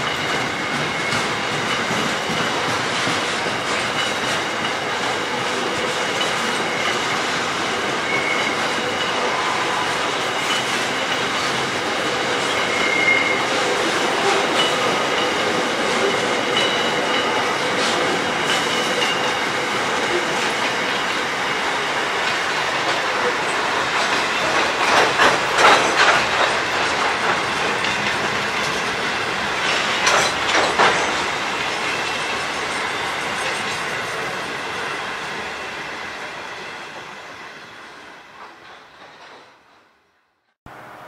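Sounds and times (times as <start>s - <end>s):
wheels clickety-clack on rail joints: 0.0s - 37.2s, 38.3s - 40.0s
train wheels rumbling: 0.0s - 40.0s.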